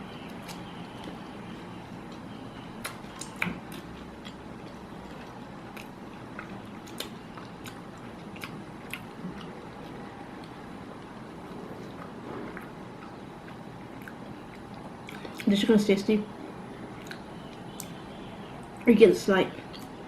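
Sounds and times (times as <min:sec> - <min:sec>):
person chewing food: 0:00.1 - 0:15.5, 0:17.0 - 0:18.0.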